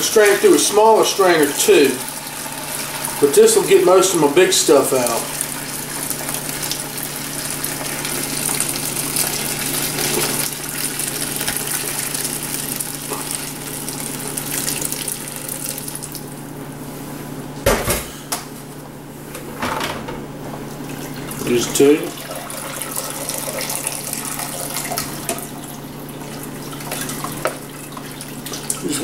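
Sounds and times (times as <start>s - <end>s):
liquid pouring and splashing: 0.0s - 16.3s, 20.8s - 29.0s.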